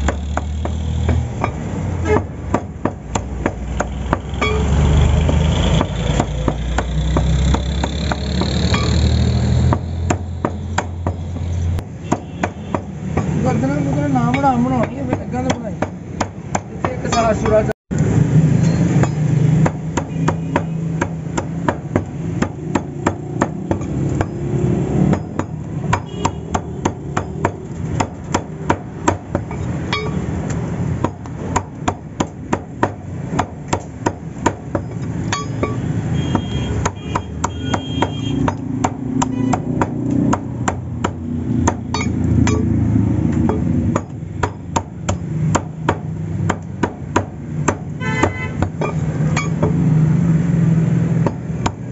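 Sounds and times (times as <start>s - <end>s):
cleaver chopping on wooden block: 0.0s - 4.6s, 5.2s - 9.0s, 9.6s - 17.6s, 19.0s - 42.7s, 43.3s - 49.8s, 51.2s - 51.9s.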